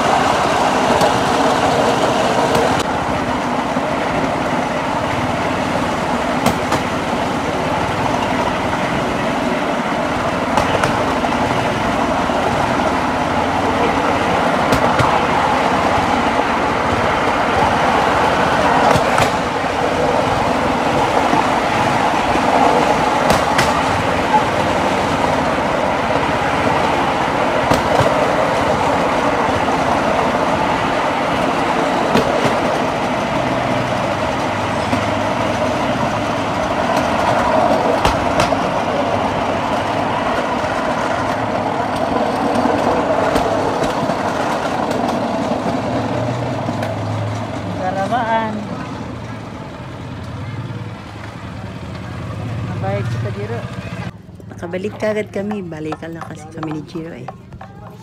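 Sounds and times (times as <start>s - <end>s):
rail trolley engine running: 0.0s - 58.0s
wheels clicking on rail joints: 0.0s - 58.0s.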